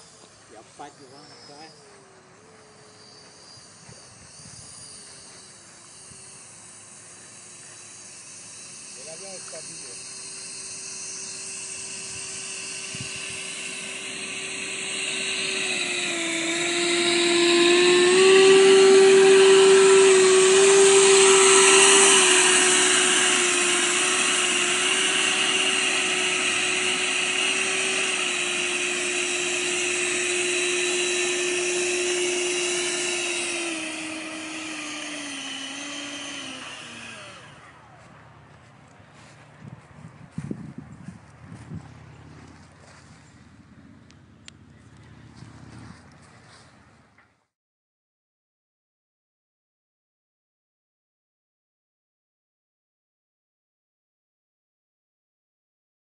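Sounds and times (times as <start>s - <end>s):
model jet fan whining: 0.0s - 47.3s.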